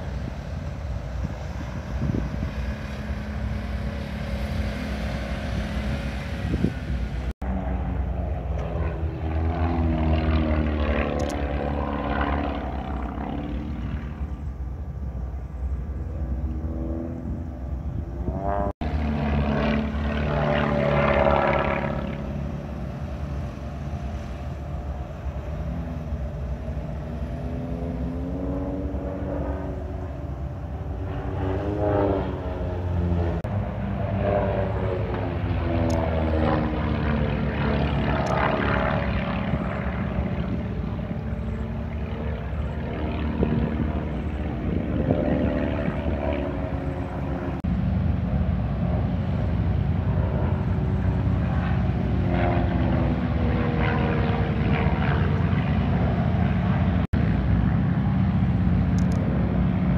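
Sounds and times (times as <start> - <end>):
propeller airplanes flying overhead: 0.0 - 59.9
steady low drone: 0.0 - 59.9.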